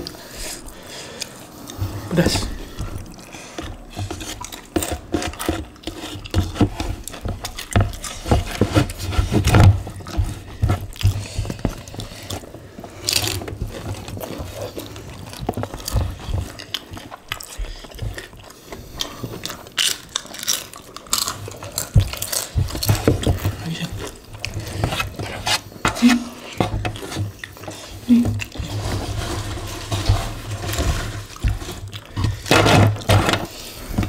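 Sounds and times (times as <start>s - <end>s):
chewing and crunching: 0.0s - 34.0s.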